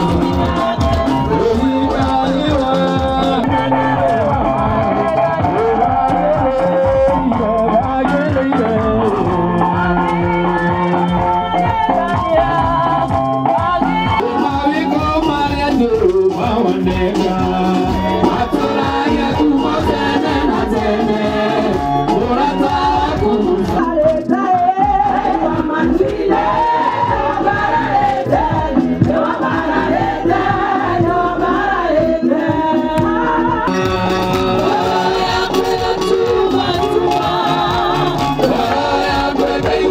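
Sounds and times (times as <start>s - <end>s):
group of people singing: 0.0s - 39.9s
people clapping along: 0.0s - 39.9s.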